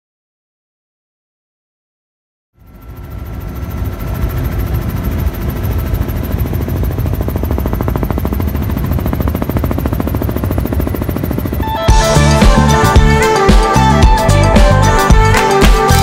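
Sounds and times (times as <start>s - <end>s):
helicopter engine noise: 2.6s - 16.0s
helicopter rotor chopping: 2.6s - 16.0s.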